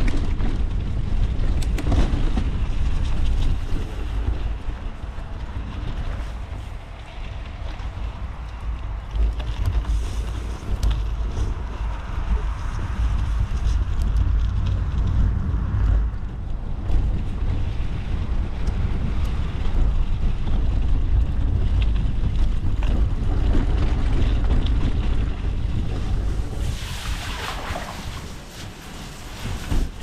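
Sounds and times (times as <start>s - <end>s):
vehicle rumbling over bumpy ground: 0.0s - 30.0s
wind buffeting microphone: 0.0s - 30.0s.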